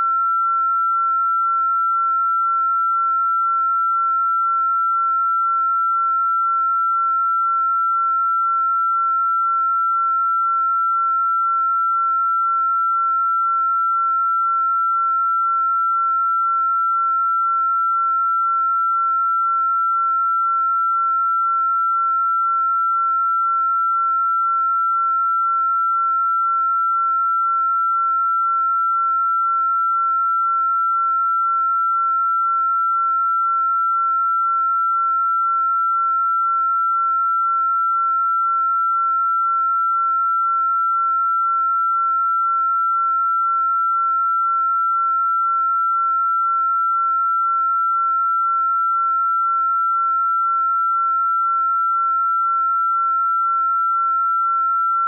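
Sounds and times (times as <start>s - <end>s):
high electronic sine tone: 0.0s - 55.0s.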